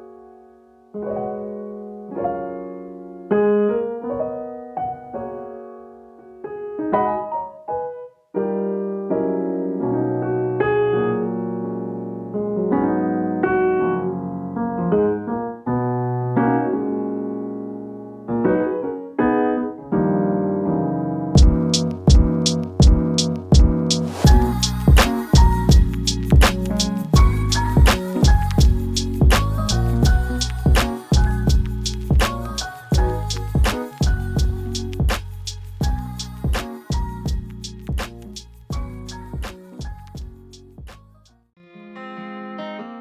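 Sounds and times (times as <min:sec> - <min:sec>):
piano playing chords: 0:00.0 - 0:41.2.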